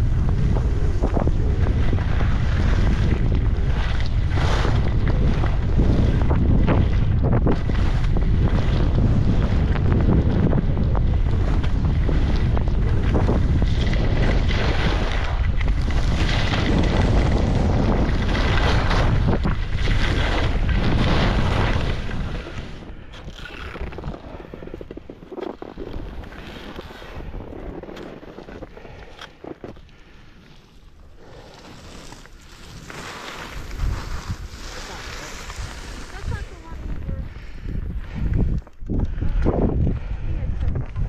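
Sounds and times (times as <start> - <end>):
wind rumble on microphone: 0.0 - 30.3, 31.2 - 41.0
skis carving through snow: 0.0 - 38.6.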